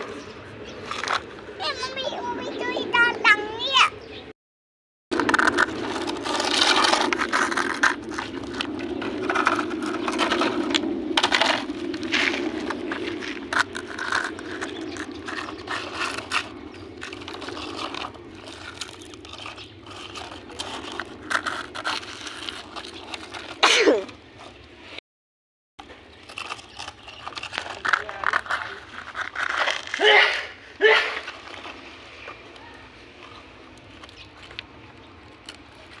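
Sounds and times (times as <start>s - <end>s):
toy wheels scraping rumble: 0.0s - 3.8s, 5.1s - 25.0s, 25.8s - 36.0s.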